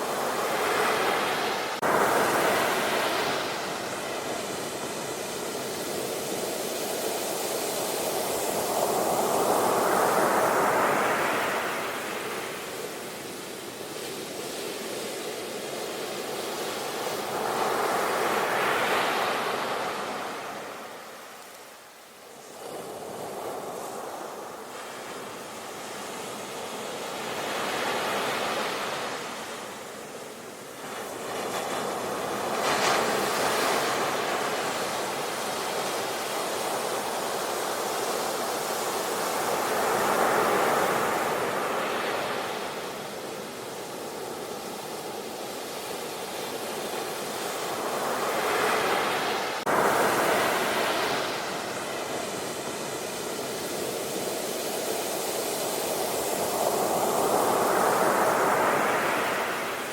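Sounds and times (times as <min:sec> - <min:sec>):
ocean waves washing onto shore: 0:00.0 - 0:59.9.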